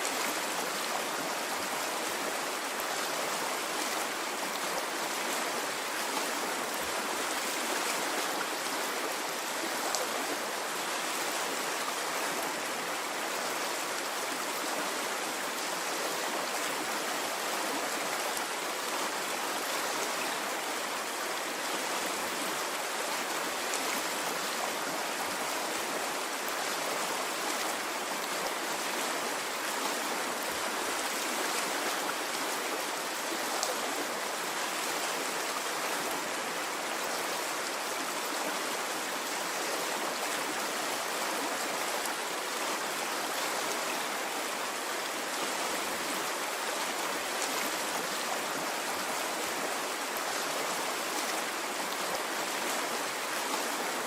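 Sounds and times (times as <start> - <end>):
stream of water babbling: 0.0 - 54.0.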